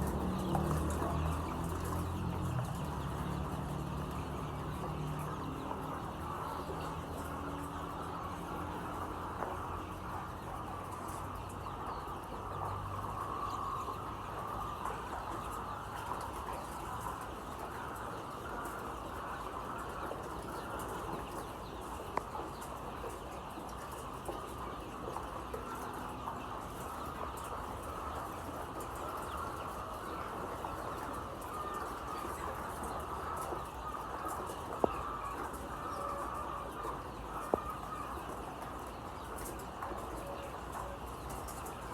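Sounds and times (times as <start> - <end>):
chickens calling: 0.0 - 41.9.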